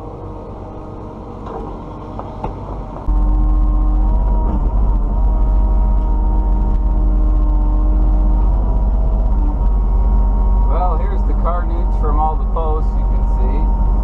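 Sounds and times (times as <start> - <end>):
excavator diesel engine rumble: 0.0 - 14.0
hydraulic whine: 0.0 - 14.0.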